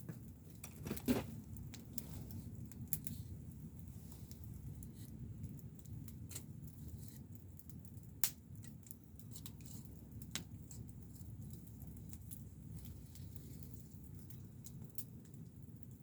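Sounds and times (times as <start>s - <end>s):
campfire crackling and snapping: 0.0s - 16.0s.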